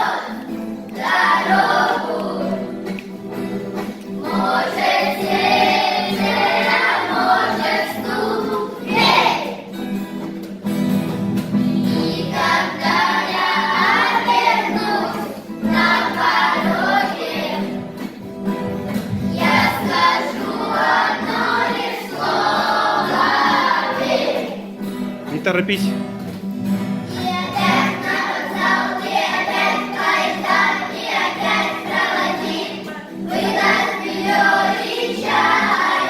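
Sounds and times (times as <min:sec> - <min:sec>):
children's choir singing: 0:00.0 - 0:09.9, 0:11.3 - 0:24.9, 0:27.0 - 0:36.0
musical accompaniment: 0:00.0 - 0:36.0.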